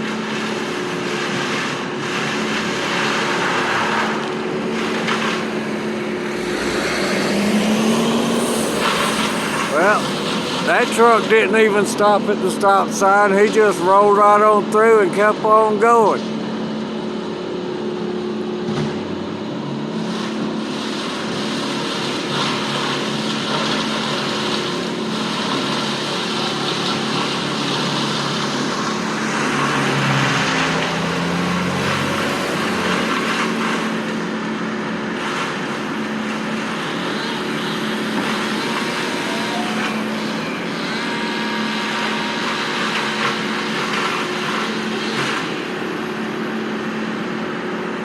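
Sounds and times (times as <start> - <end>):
engine running: 0.0 - 48.0.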